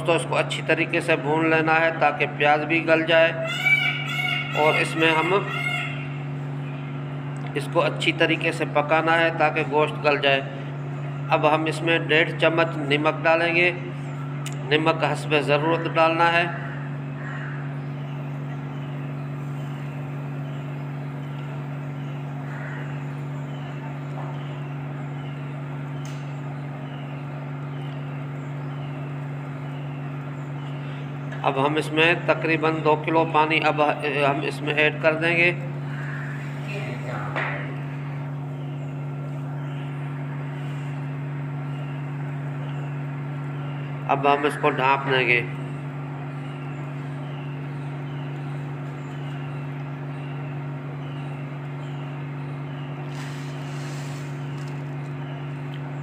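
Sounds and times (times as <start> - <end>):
steady low hum: 0.0 - 56.0
faint chirp: 2.4 - 56.0.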